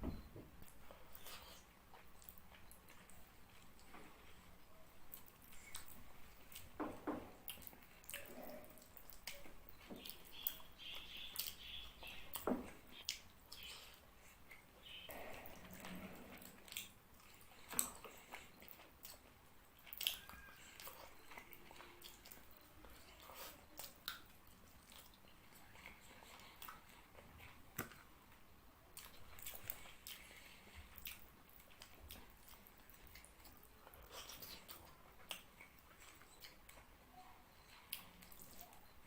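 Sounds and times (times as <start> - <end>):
person chewing food: 0.1 - 39.0.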